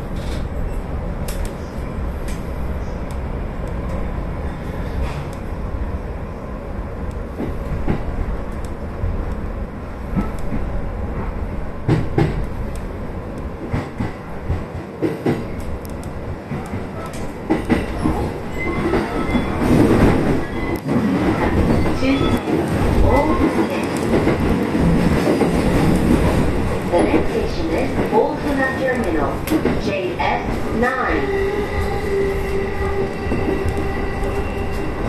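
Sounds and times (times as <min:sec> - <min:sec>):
train rumbling: 0:00.0 - 0:35.0.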